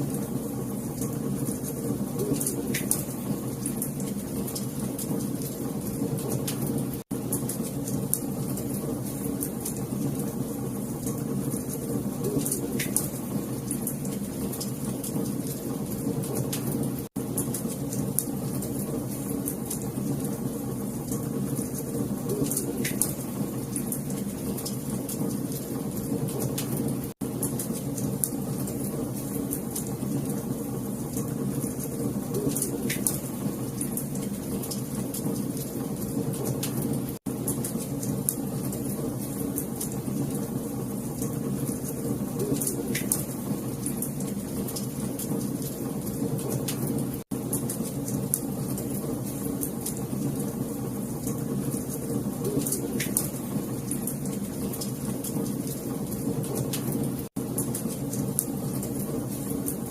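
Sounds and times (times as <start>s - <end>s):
fire crackling: 0.1s - 59.9s.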